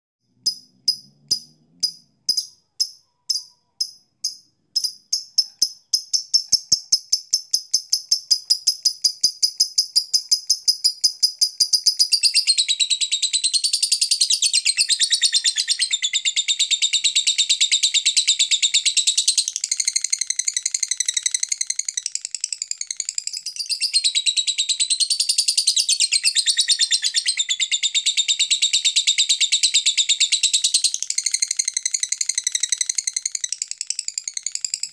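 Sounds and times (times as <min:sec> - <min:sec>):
lovebird chirping and trilling: 0:00.4 - 0:34.9.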